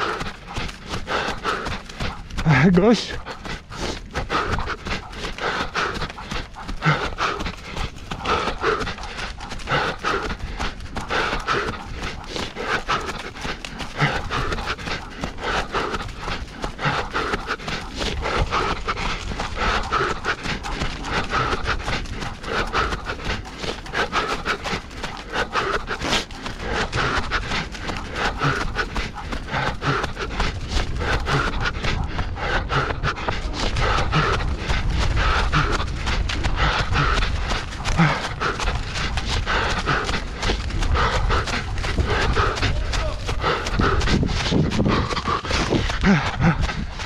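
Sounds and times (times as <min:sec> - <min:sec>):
hard rhythmic panting: 0:00.0 - 0:47.0
quick running footfalls: 0:00.0 - 0:47.0.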